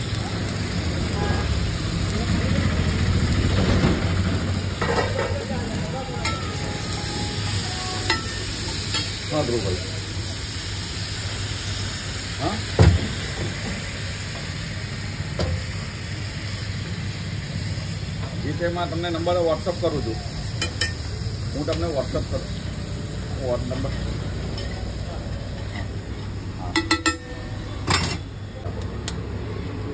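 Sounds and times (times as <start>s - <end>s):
egg mixture sizzling on griddle: 0.0s - 29.4s.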